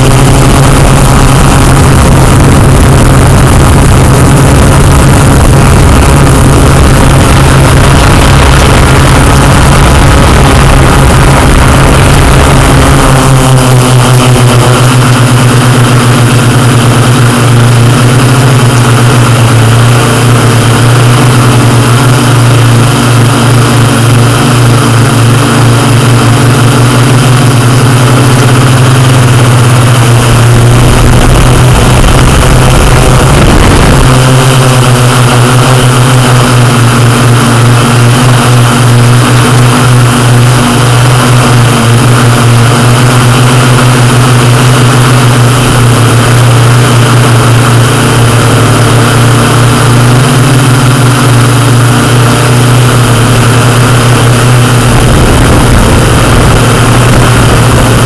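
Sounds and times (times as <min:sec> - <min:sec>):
drone motors whining: 0:00.0 - 0:58.0
low rumble: 0:00.0 - 0:58.0.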